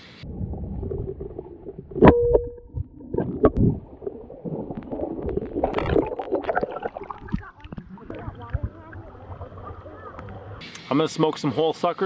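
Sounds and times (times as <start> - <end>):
underwater gurgling and rumble: 0.0 - 10.6.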